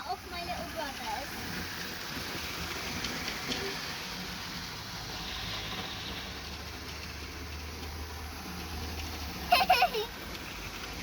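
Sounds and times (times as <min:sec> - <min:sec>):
model train electric whirr: 0:00.0 - 0:11.0.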